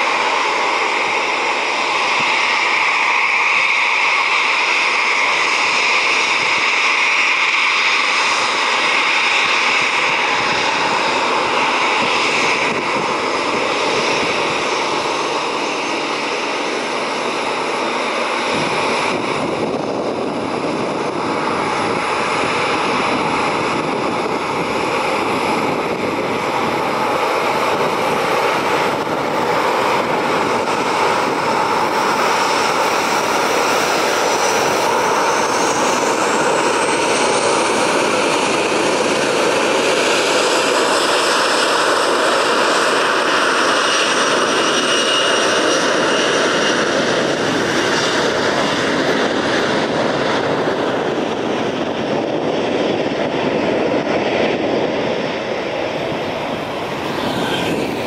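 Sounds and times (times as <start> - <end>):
jet engines roaring and whining: 0.0 - 58.0.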